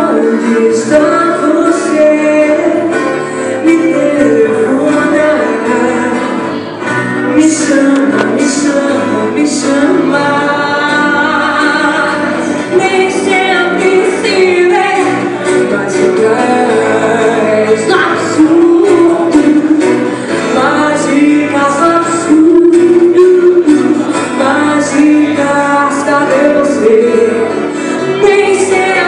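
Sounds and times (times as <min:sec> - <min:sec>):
guitar accompaniment: 0:00.0 - 0:29.0
woman singing into a microphone: 0:00.0 - 0:29.0.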